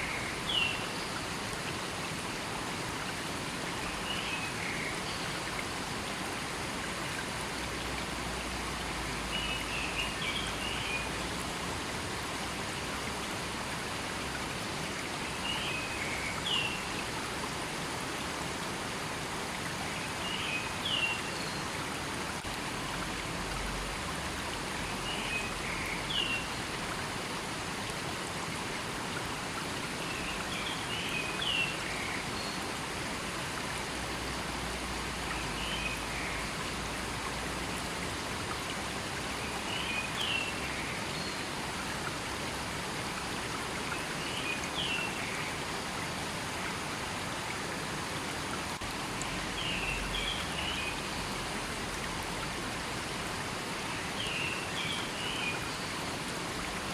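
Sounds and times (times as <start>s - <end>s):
river water flowing over stones: 0.0s - 56.9s.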